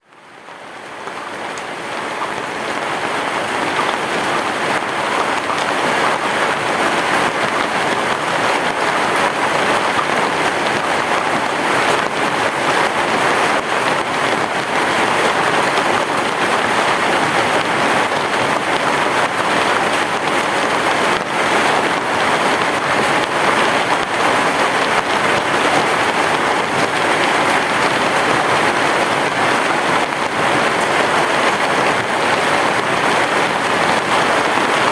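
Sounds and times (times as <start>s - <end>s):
heavy rain on a roof: 0.0s - 34.9s.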